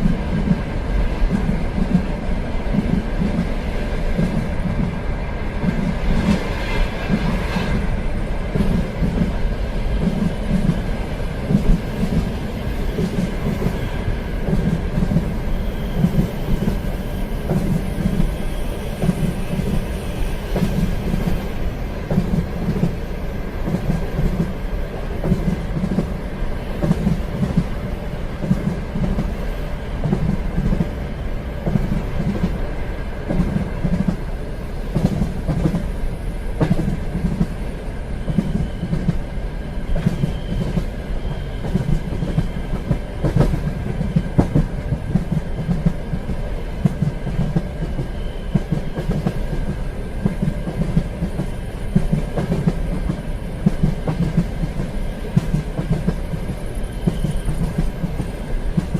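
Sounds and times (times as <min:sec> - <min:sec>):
train wheels clacking on rails: 0:00.0 - 0:58.9.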